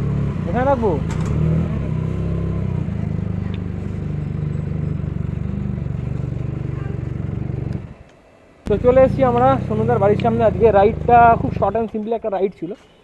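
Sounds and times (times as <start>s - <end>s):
motorcycle engine idling: 0.0s - 8.0s, 8.7s - 12.0s.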